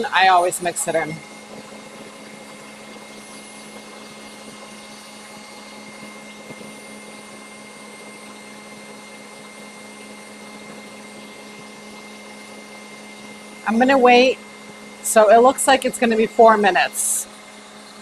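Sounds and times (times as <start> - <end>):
stand mixer whirring: 0.0 - 18.0.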